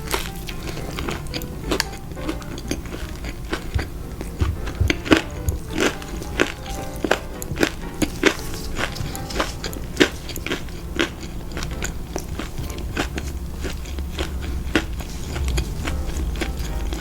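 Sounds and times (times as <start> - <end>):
crunchy bites of fried food: 0.0 - 17.0.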